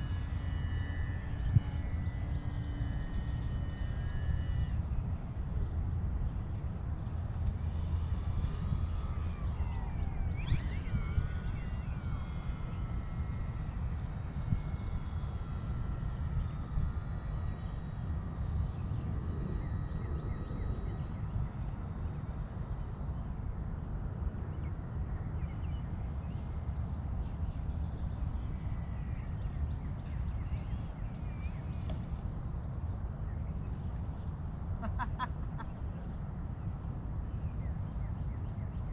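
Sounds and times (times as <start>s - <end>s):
rc plane motor and propeller whining: 0.0s - 38.9s
wind rumble on microphone: 0.0s - 38.9s.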